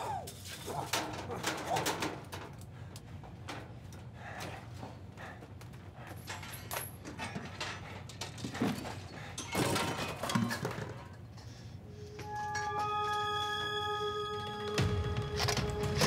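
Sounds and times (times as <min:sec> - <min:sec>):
rummaging through supplies: 0:00.1 - 0:13.3, 0:14.4 - 0:16.0.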